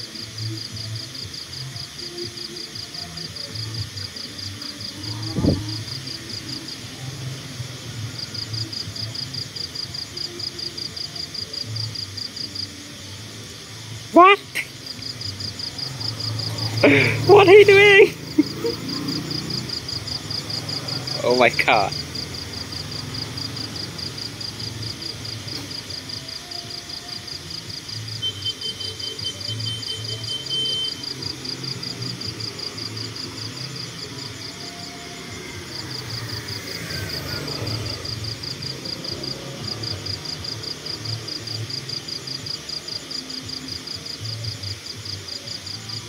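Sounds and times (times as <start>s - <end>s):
insect chirping: 0.0s - 46.0s.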